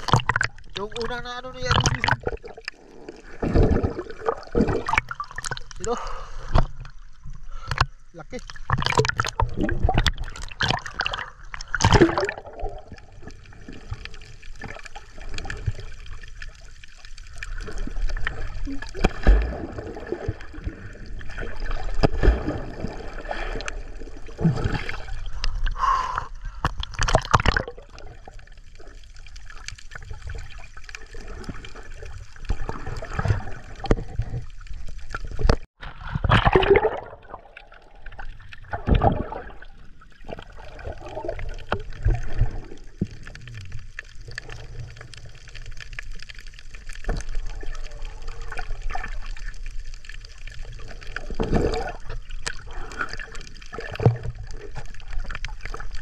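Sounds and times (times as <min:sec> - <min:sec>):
seawater splashing and dripping: 0:00.0 - 0:35.7, 0:36.3 - 0:56.0.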